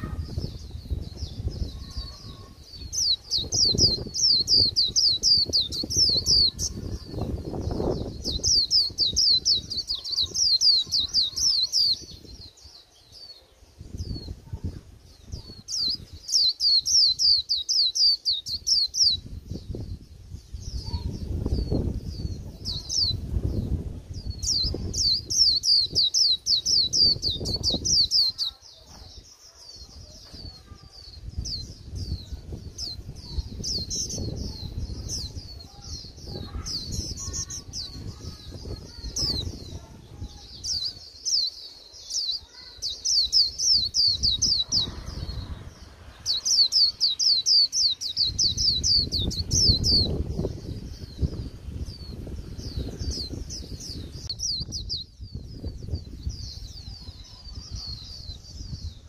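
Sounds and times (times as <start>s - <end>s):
bird singing chattering warbles: 0.0s - 59.0s.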